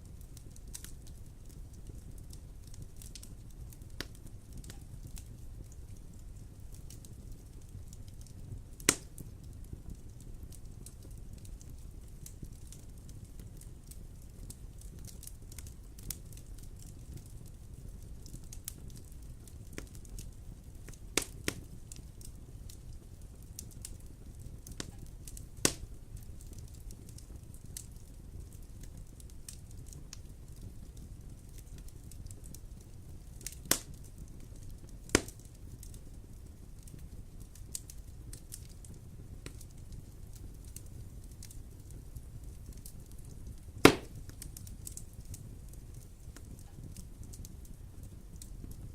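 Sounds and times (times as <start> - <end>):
low rumble of flame: 0.0 - 48.9
wood fire crackling and popping: 0.0 - 48.9.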